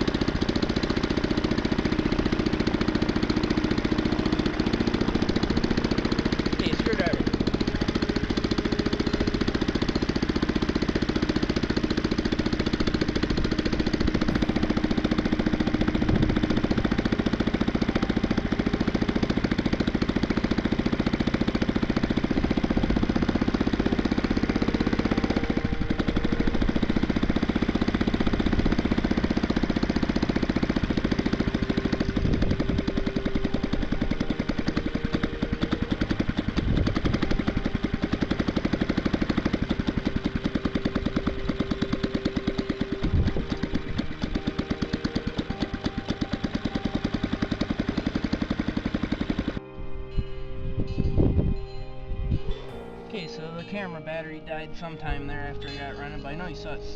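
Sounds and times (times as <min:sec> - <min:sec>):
small gas engine running: 0:00.0 - 0:56.9.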